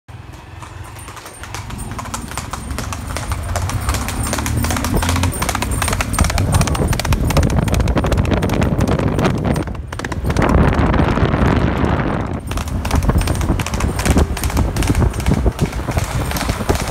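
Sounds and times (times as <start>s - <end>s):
horse hooves on paved road: 0.1s - 16.9s.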